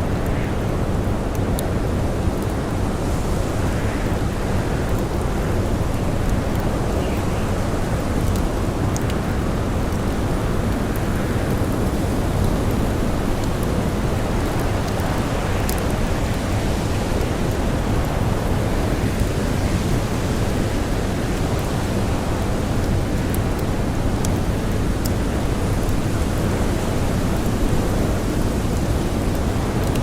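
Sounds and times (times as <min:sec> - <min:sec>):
blizzard wind blowing: 0:00.0 - 0:30.0
campfire crackling: 0:00.0 - 0:30.0.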